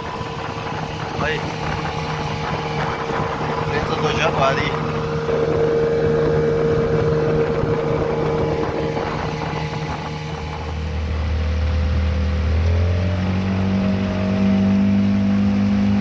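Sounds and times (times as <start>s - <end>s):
constant rushing noise: 0.0s - 16.0s
low hum: 0.0s - 16.0s
outboard motor running: 0.0s - 16.0s.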